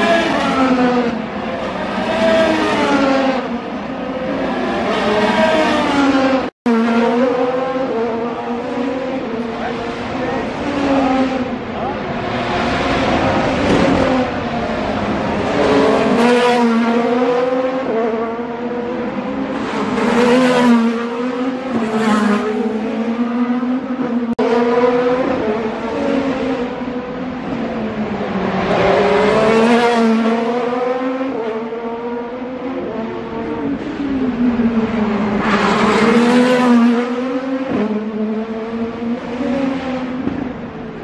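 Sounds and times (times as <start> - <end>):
race cars passing: 0.0 - 41.0.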